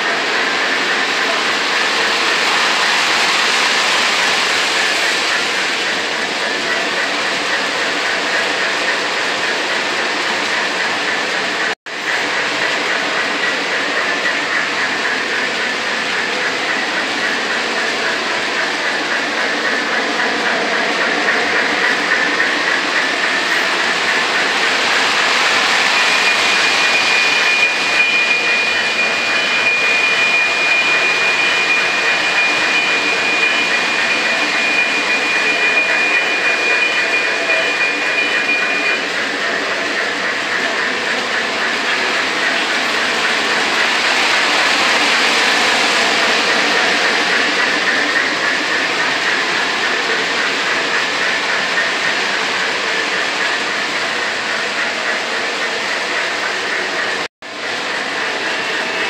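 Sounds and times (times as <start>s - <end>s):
model trains rumbling on track: 0.0s - 59.0s.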